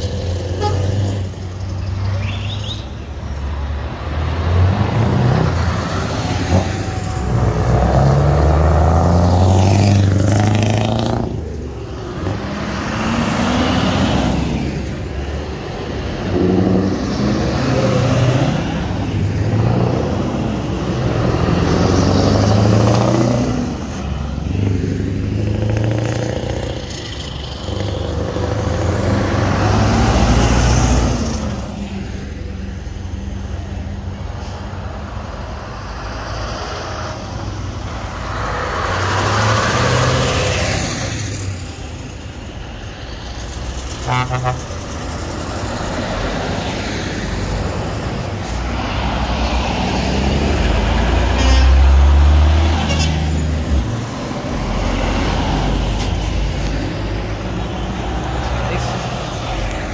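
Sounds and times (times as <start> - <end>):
diesel engines revving: 0.0 - 59.9
heavy lorries passing: 0.0 - 59.9.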